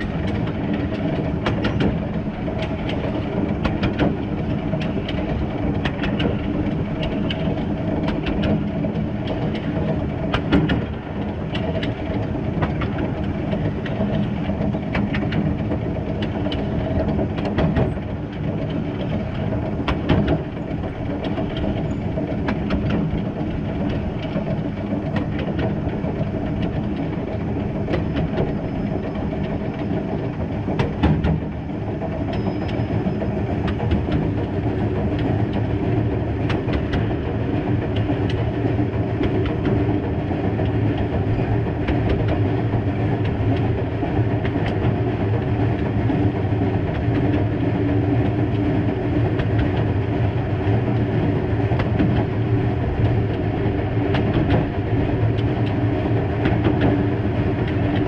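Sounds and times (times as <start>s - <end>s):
steam locomotive rumble and rattle: 0.0s - 58.0s
wheels clicking over track: 0.0s - 58.0s.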